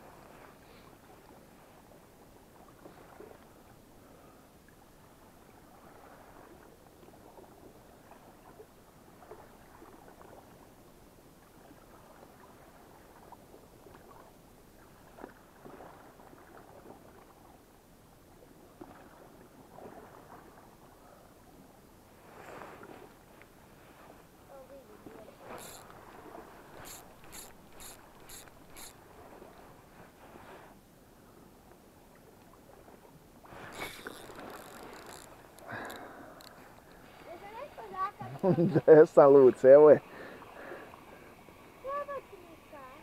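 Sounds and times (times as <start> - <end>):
small waves lapping against rocks: 0.0 - 17.7, 18.3 - 43.0.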